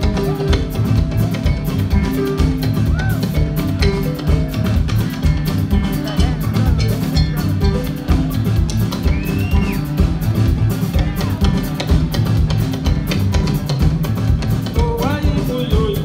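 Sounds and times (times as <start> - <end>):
drum kit beat: 0.0 - 16.0
wooden xylophone: 0.0 - 16.0.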